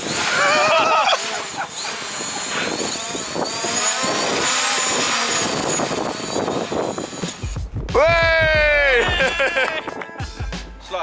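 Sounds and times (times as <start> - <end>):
drone propellers buzzing: 0.0 - 9.9.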